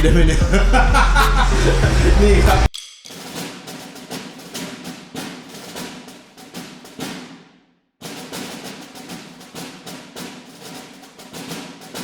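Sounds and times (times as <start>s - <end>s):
percussion music with wood-block beats: 0.0s - 7.4s, 8.0s - 12.0s.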